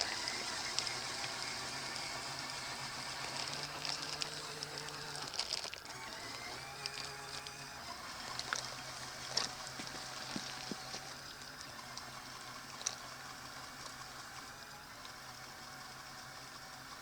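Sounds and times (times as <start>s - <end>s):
small water splashes: 0.0s - 15.2s
small electric motor humming: 0.0s - 17.0s.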